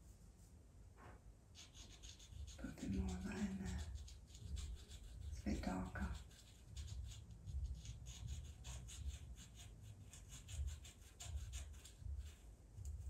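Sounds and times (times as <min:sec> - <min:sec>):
pencil scratching on paper: 0:01.6 - 0:13.0.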